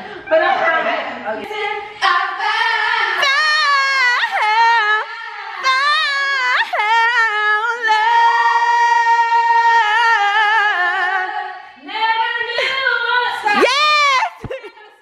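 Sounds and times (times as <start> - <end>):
woman singing unaccompanied: 0.2 - 15.0.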